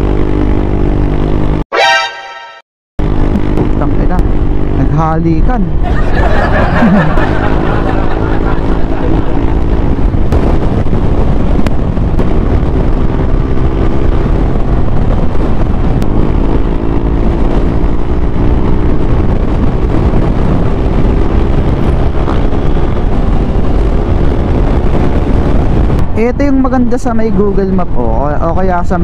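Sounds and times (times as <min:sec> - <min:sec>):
wind buffeting microphone: 0:03.0 - 0:29.0.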